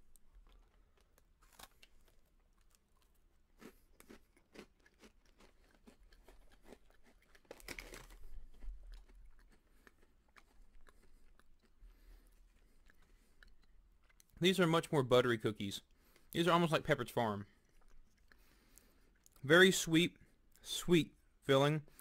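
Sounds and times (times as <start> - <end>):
crunching and chewing cookie: 0.0 - 22.0.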